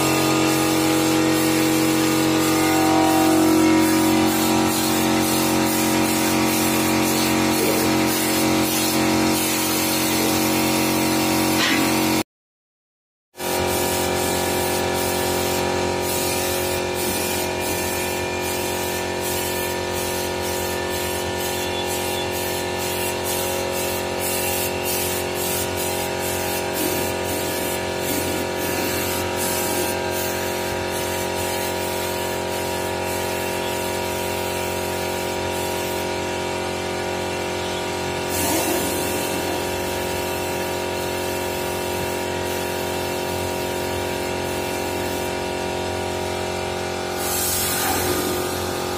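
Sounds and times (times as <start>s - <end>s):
air compressor humming: 0.0s - 10.9s, 13.4s - 33.7s, 34.3s - 40.7s, 43.8s - 48.9s
spray gun hissing: 0.0s - 12.2s, 13.4s - 36.1s, 38.2s - 48.9s.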